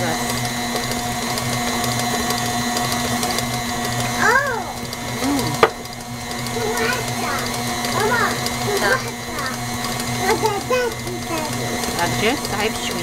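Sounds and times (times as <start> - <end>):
stand mixer humming: 0.0 - 13.0.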